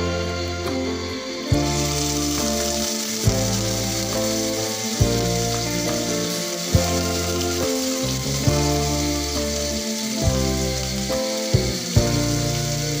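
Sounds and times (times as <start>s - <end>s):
background music with bass: 0.0s - 13.0s
food sizzling in oil: 0.0s - 13.0s.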